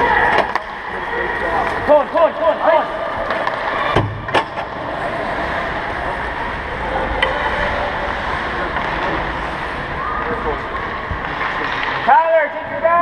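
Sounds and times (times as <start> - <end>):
ice hockey rink noise: 0.0 - 13.0.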